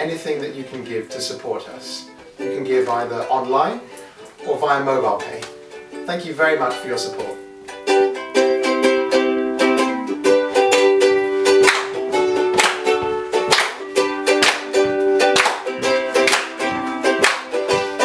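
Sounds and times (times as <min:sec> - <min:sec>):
ukulele strumming chords: 0:00.0 - 0:18.0.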